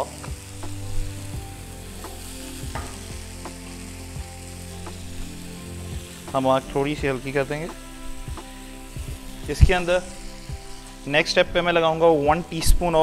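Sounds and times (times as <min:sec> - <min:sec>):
sauce sizzling and bubbling in a pan: 0:00.0 - 0:11.4.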